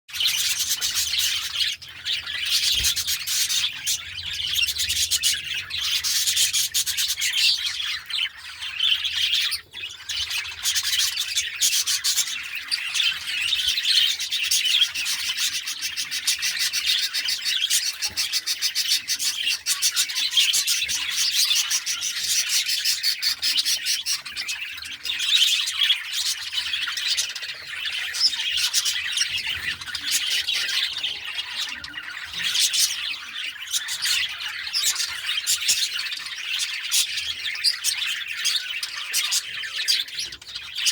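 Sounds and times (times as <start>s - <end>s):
budgerigars chattering: 0.1s - 40.9s.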